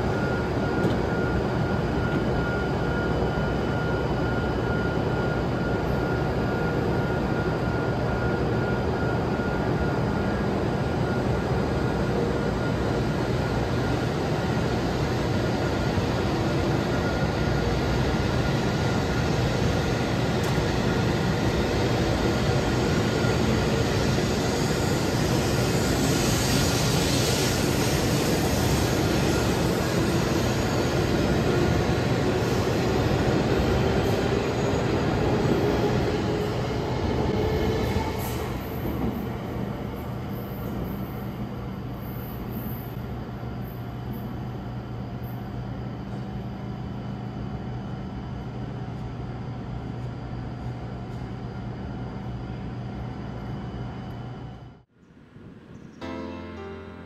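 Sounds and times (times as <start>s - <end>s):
train running noise: 0.0s - 54.8s
train drive whine: 0.0s - 57.0s.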